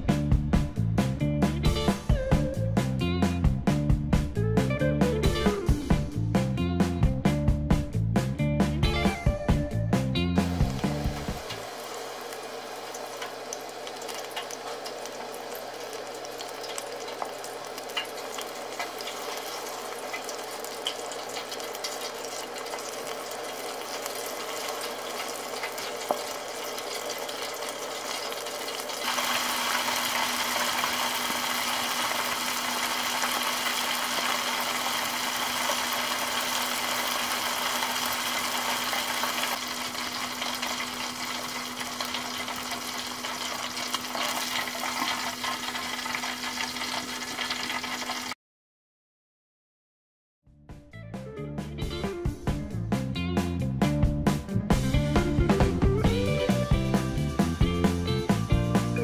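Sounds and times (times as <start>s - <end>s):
chicken deep-frying in oil: 0.0s - 2.9s, 4.2s - 48.4s, 53.7s - 59.0s.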